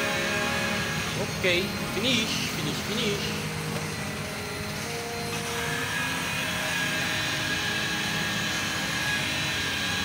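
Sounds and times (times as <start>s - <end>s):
electric polisher whining: 0.0s - 10.0s.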